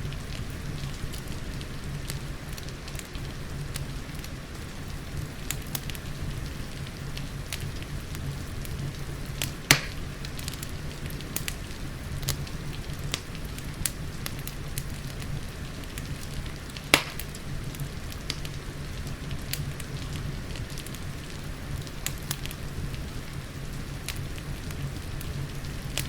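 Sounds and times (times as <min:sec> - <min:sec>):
rain: 0:00.0 - 0:26.0
wood fire crackling: 0:00.0 - 0:26.0.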